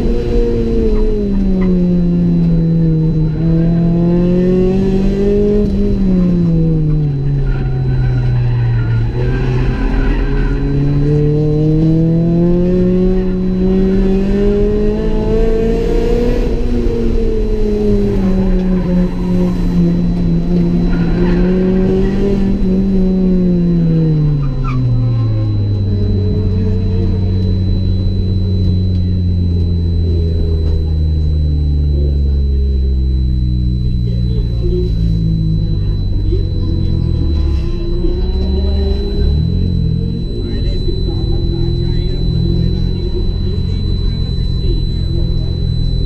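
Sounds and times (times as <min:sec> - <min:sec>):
car engine running hard: 0:00.0 - 0:46.0.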